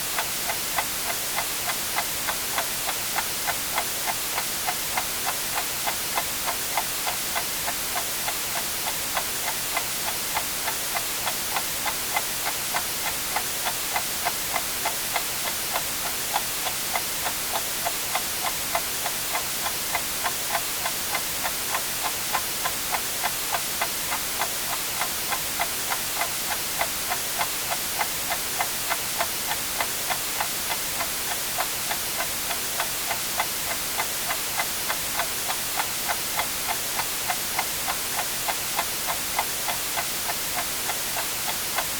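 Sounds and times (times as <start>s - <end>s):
white noise hiss: 0.0s - 41.9s
clock ticking: 0.2s - 41.9s.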